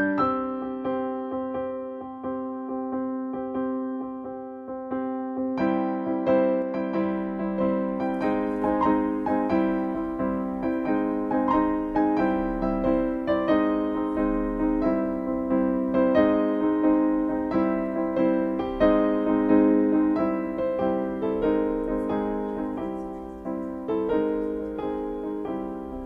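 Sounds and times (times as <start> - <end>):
gentle keyboard music: 0.0 - 26.0.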